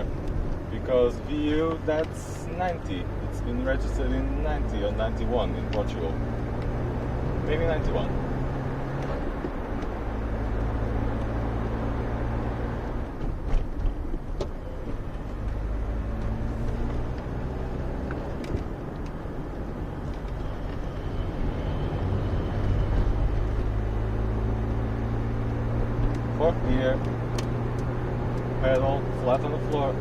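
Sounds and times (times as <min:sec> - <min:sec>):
car engine running: 0:00.0 - 0:30.0
road noise: 0:00.0 - 0:30.0.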